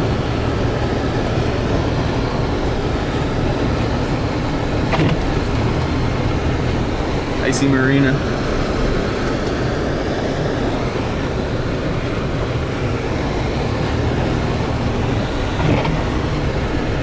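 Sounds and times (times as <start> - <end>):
road and engine rumble in cabin: 0.0 - 17.0.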